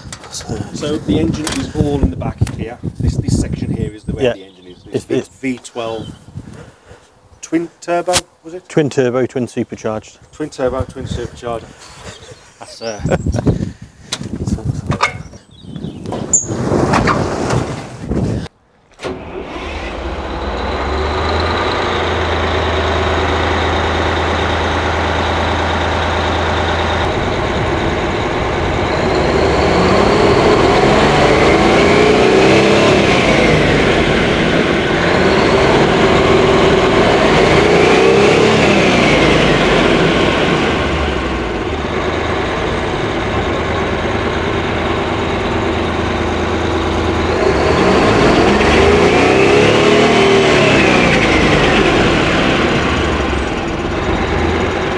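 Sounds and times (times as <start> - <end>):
diesel engine starting and revving: 0.0 - 5.2, 15.9 - 54.9.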